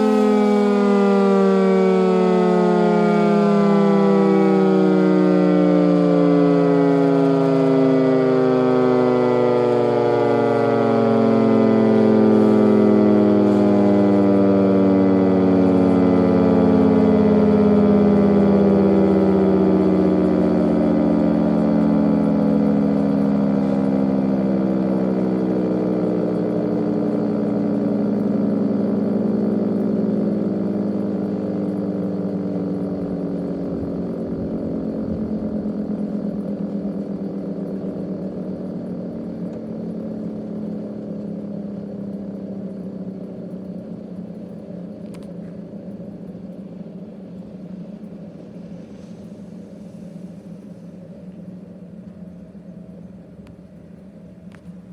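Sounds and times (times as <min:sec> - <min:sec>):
warning siren winding down: 0:00.0 - 0:54.9.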